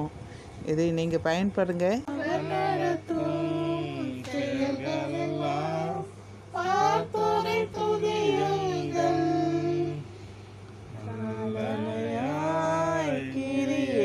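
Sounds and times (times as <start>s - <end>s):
family singing a hymn: 2.1s - 14.0s.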